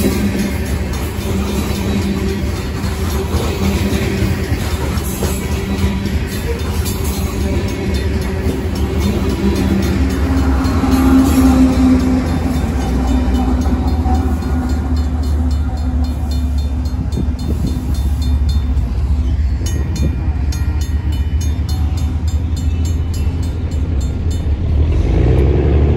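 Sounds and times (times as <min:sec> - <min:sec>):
crossing bell clanging: 0:00.0 - 0:25.6
diesel locomotive rumbling: 0:00.0 - 0:25.9.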